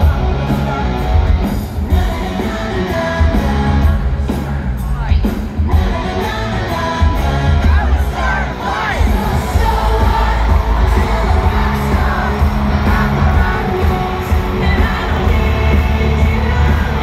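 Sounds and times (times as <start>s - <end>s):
live pop music with singer: 0.0s - 17.0s.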